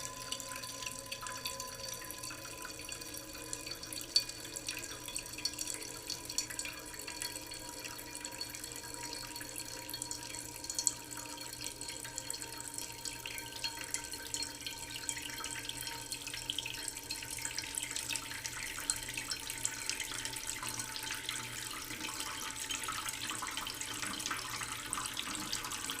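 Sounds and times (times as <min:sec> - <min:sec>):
tap water pouring into a pot: 0:00.0 - 0:26.0.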